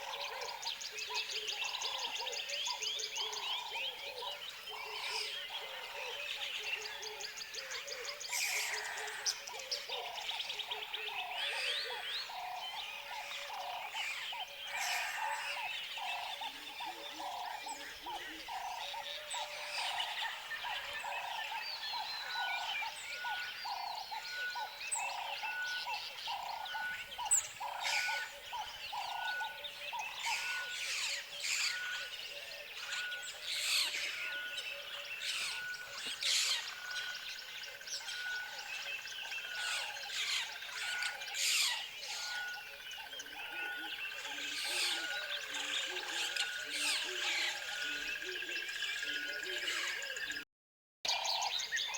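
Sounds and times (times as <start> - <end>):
birds chirping and whistling: 7.7 - 50.4.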